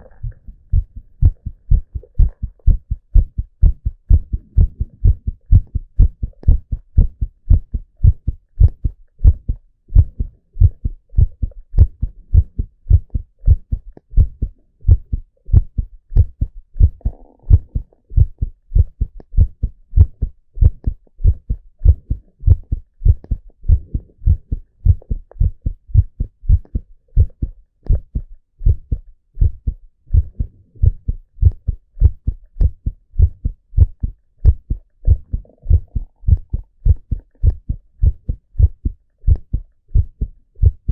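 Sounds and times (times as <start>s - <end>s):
heartbeat thumps: 0.0s - 40.9s.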